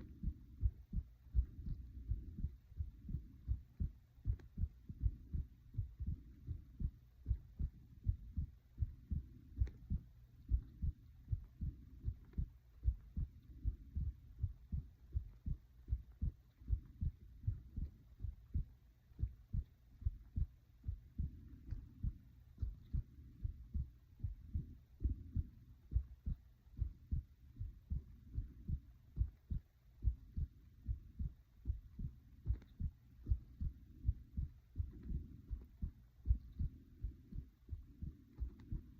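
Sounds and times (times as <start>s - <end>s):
heartbeat thuds: 0.0s - 38.9s.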